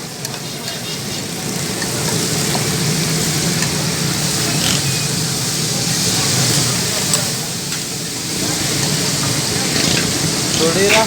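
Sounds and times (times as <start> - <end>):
liver sizzling on a griddle: 0.0 - 11.0.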